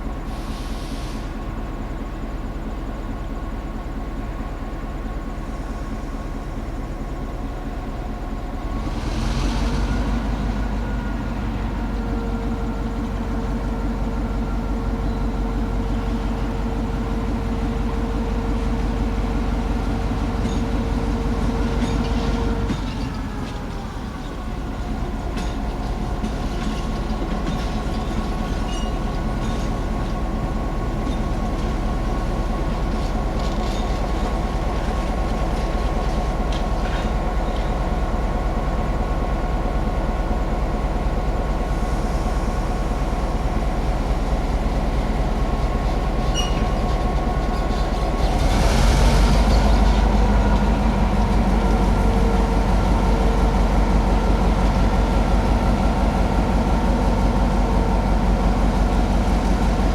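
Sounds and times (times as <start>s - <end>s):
locomotive diesel engine running: 0.0s - 59.9s.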